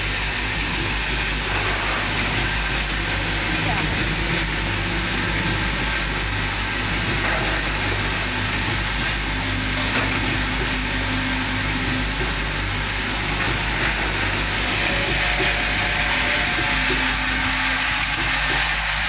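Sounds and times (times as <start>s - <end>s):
machine hum and hiss: 0.0s - 19.0s.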